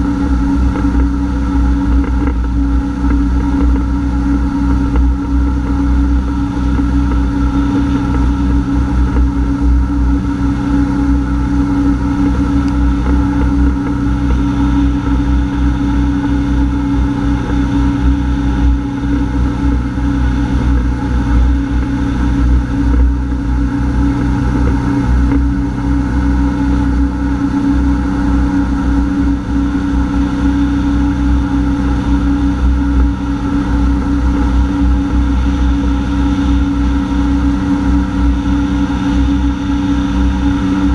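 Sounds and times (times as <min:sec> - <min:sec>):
watercraft engine droning: 0:00.0 - 0:40.9.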